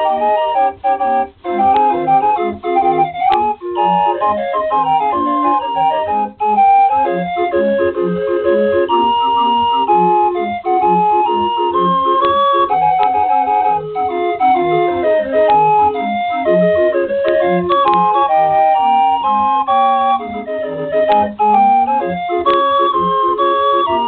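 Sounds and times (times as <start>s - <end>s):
pipe organ playing a march: 0.0s - 24.0s.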